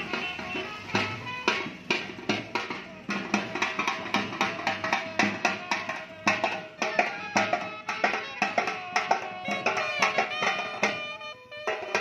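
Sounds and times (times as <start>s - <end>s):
drum beaten with sharp strokes: 0.0s - 12.0s.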